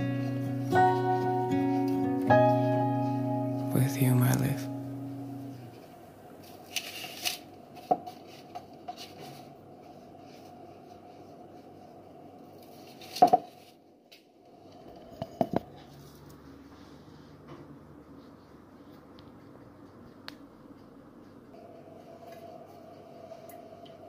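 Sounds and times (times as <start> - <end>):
faint steady hum: 0.0 - 13.0, 13.7 - 24.0.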